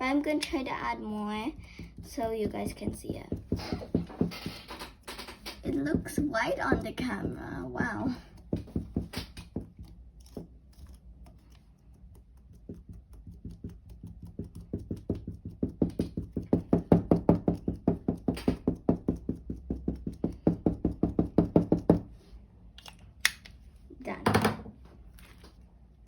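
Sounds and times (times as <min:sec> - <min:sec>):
rapid knocking of stirring slime: 0:00.0 - 0:22.2.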